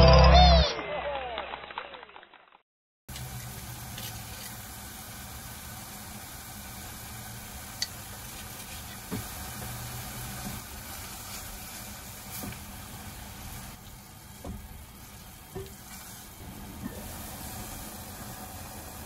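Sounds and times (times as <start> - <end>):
tomatoes sizzling in oil: 3.1 - 19.0.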